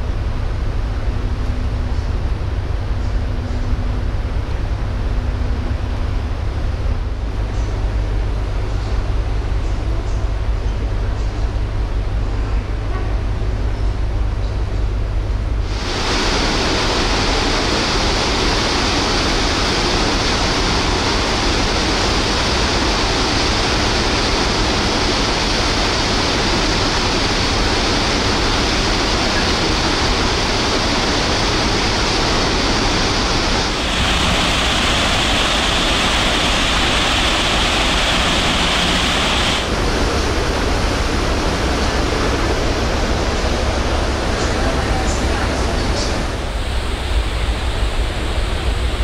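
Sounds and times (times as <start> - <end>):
churning boat wake: 0.0 - 49.0.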